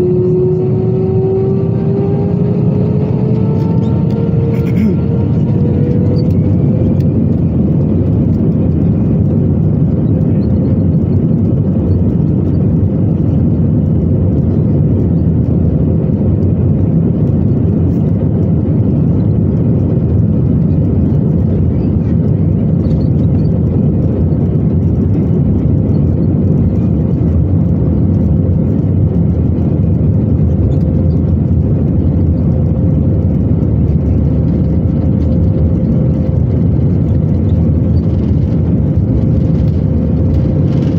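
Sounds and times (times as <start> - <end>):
aircraft cabin engine noise: 0.0 - 40.9.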